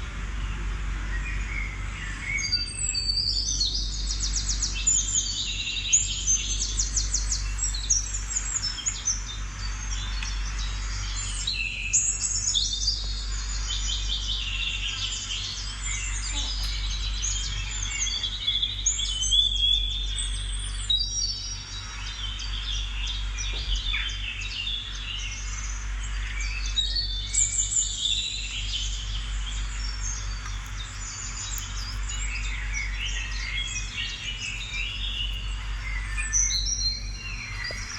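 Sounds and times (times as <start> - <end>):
steady low hum: 0.0 - 37.9
small birds chirping: 1.2 - 37.9.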